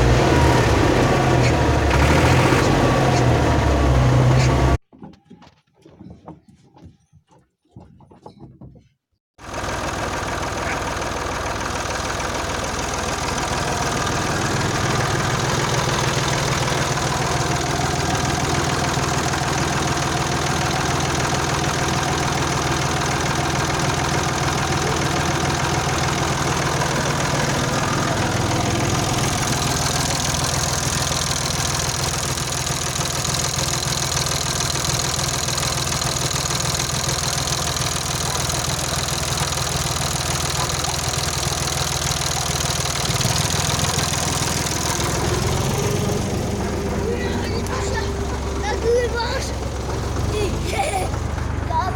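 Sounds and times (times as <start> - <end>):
tractor diesel engine idling: 0.0 - 4.8, 9.4 - 51.9.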